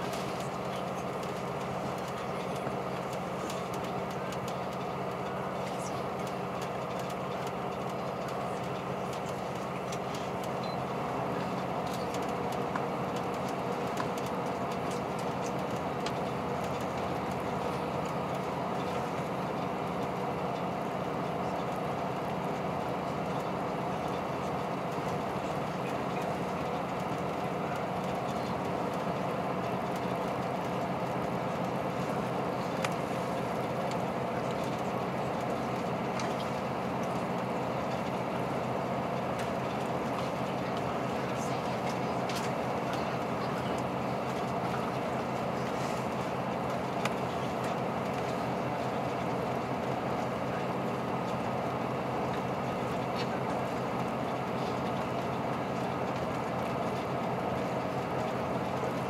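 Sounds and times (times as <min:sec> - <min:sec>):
diesel engine drone: 0:00.0 - 0:59.0
wheel on rail rumble: 0:00.0 - 0:59.0.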